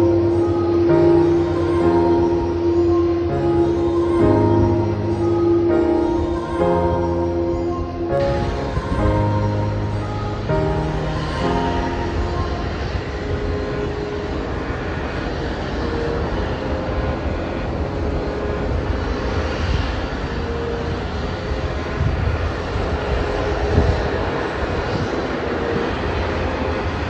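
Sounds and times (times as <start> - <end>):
airplane engine rush and rumble: 0.0 - 27.0.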